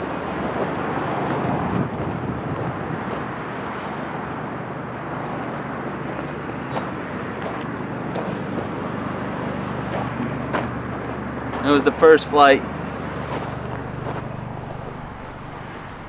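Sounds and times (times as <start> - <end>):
cars passing: 0.0 - 16.0
steady low hum: 0.0 - 16.0.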